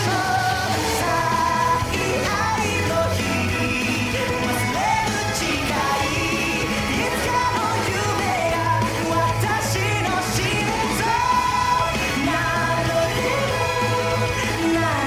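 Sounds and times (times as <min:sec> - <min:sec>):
pop song with female vocal: 0:00.0 - 0:15.0.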